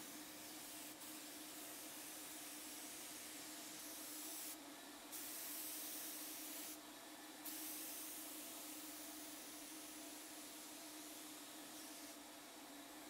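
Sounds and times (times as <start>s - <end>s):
paint spray gun hissing: 0.0s - 6.8s, 7.5s - 12.2s.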